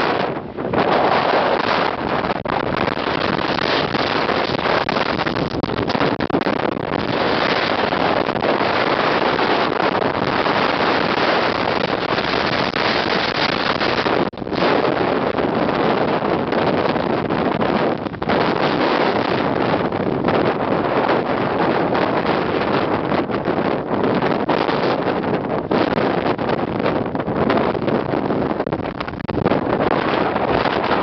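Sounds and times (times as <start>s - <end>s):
sea surf rushing: 0.0s - 31.0s
wind buffeting microphone: 0.0s - 31.0s.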